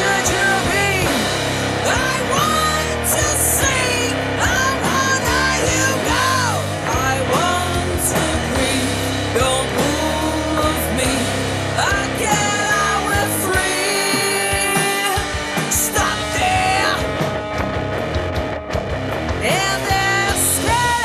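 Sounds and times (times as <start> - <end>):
woman singing: 0.0 - 1.2, 1.8 - 17.1, 19.4 - 21.0
rock band playing: 0.0 - 21.0.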